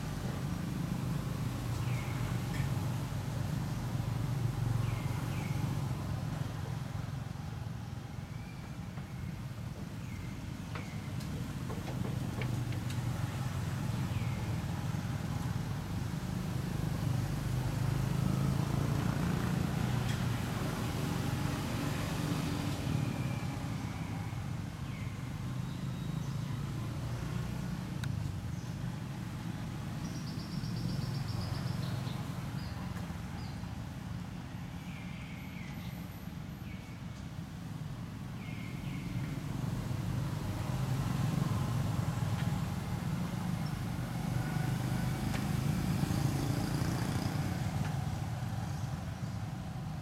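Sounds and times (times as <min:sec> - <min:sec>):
vehicle engines rumbling: 0:00.0 - 0:50.0.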